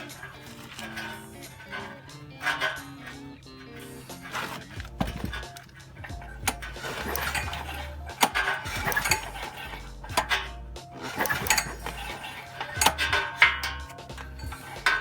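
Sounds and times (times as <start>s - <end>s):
background music with bass line: 0.0s - 15.0s
metallic clinks and clicks: 0.0s - 15.0s.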